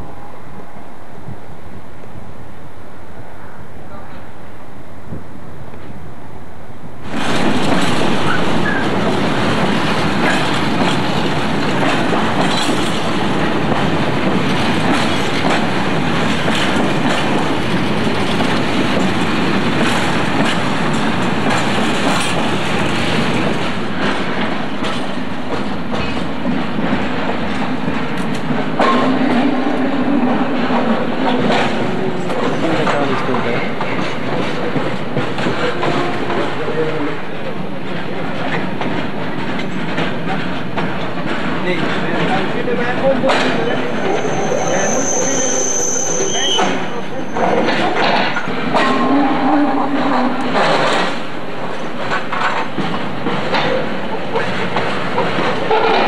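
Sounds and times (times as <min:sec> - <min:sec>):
freight wagons rattling on rails: 0:07.1 - 0:56.0.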